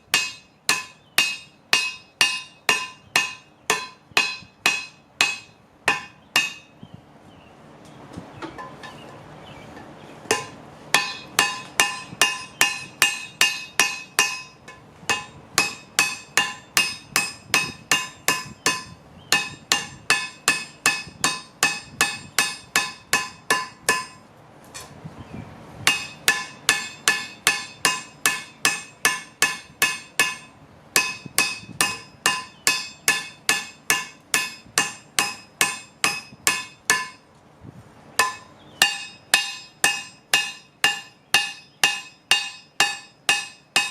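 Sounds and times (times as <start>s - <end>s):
hammer striking hot steel on anvil: 0.0s - 6.7s, 10.3s - 24.2s, 25.8s - 37.3s, 38.2s - 43.9s.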